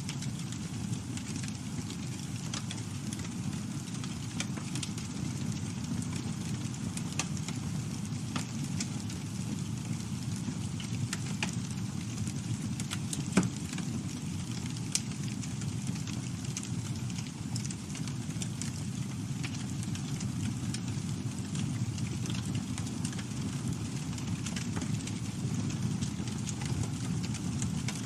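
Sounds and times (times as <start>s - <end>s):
campfire flames rumbling: 0.0s - 28.0s
wood crackling and popping: 0.0s - 28.0s.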